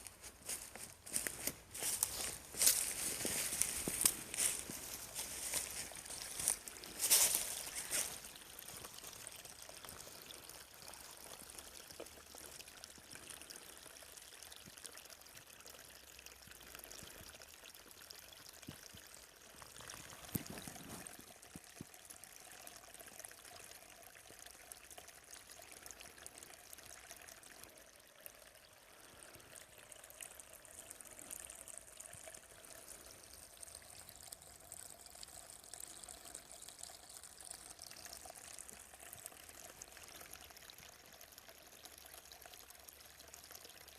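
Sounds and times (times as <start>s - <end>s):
forest stream trickling: 0.0s - 43.9s.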